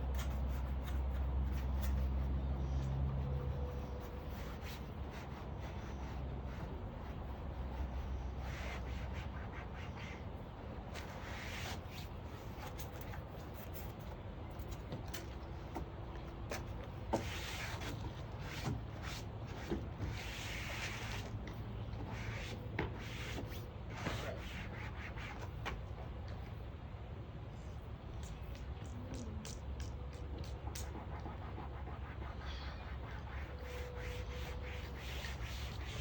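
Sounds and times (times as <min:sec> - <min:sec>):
brushing strokes on van floor: 0:00.0 - 0:25.9, 0:30.6 - 0:36.0.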